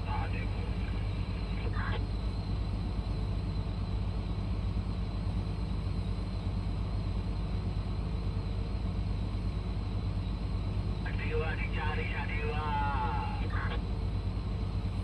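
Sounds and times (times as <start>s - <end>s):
large diesel engines rumbling: 0.0s - 15.0s.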